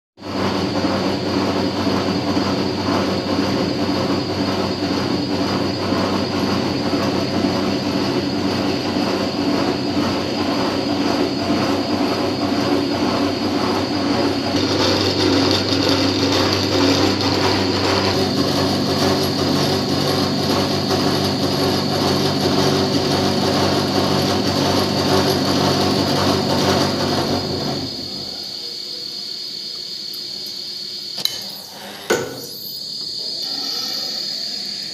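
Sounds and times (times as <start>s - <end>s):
machine motor hum and whine: 0.3s - 34.9s.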